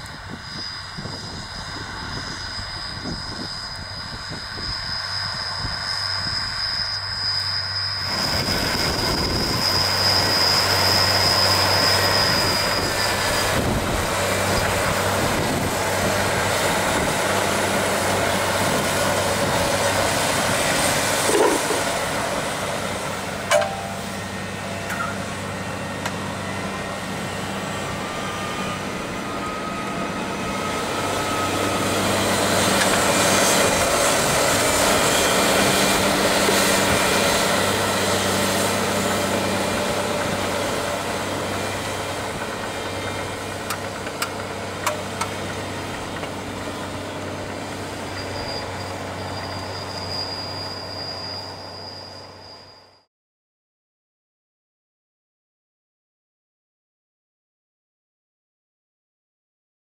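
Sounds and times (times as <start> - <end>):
tractor diesel engine under load: 0.0 - 51.6.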